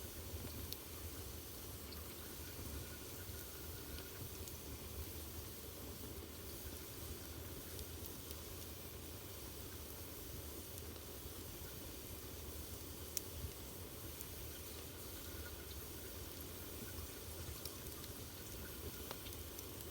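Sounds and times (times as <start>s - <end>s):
fire crackles: 0.0s - 19.9s
fire rumbling and hissing: 0.0s - 19.9s.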